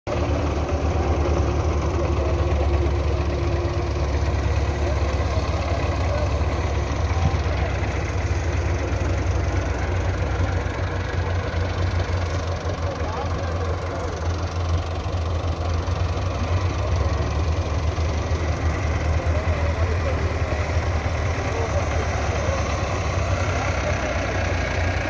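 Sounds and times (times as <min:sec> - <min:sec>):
tractor diesel engine idling: 0:00.1 - 0:25.0.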